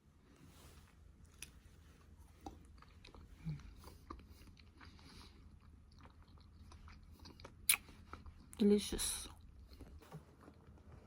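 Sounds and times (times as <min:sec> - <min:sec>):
person chewing food: 0:01.3 - 0:08.6, 0:09.2 - 0:11.0.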